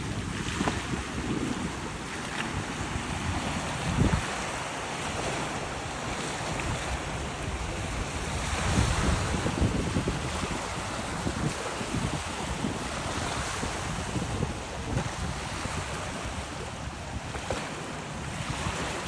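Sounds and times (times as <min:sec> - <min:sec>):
rush of wind and water: 0:00.0 - 0:19.0
wind buffeting microphone: 0:00.0 - 0:19.0.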